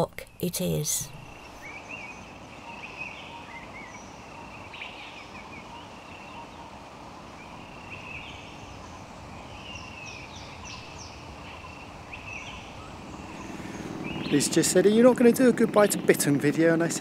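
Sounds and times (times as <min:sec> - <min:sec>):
birds chirping: 0:00.0 - 0:17.0
low background hiss: 0:00.0 - 0:17.0.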